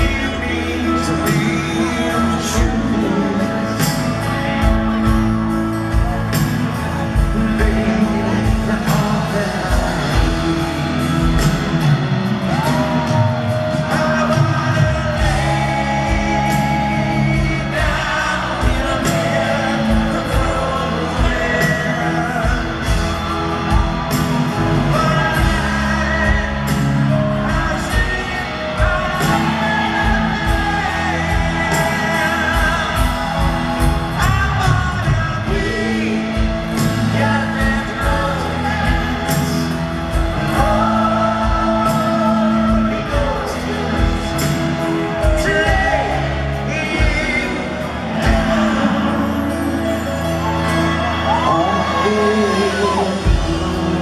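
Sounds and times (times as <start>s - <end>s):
drums beating: 0.0s - 49.6s, 50.4s - 54.0s
crowd shouting and whooping: 0.0s - 54.0s
man singing: 0.0s - 54.0s
rock band playing: 0.0s - 54.0s.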